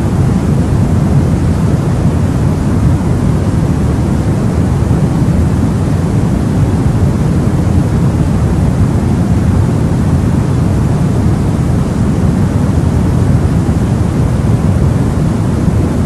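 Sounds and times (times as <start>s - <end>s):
white noise: 0.0s - 16.0s.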